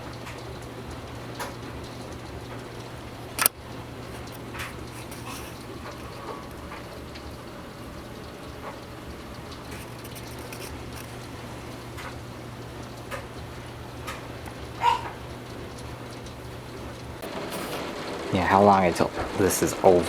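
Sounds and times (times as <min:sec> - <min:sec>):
torrential rain: 0:00.0 - 0:20.0
water dripping and splashing: 0:00.0 - 0:20.0.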